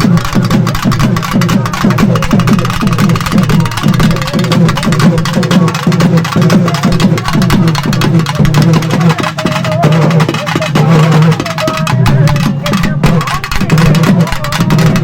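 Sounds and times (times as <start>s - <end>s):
music with fast drumming: 0.0s - 15.0s.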